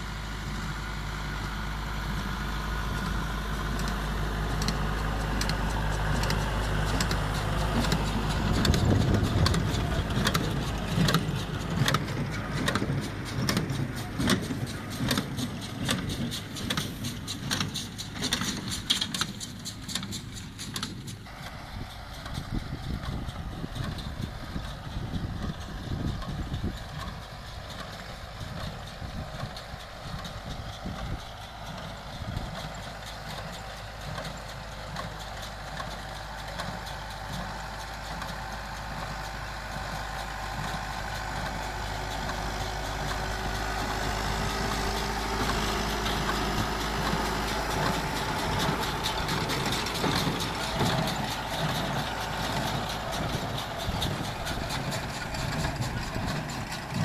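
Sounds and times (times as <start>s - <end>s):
hay baler clattering: 0.0s - 57.0s
tractor diesel engine running: 0.0s - 57.0s.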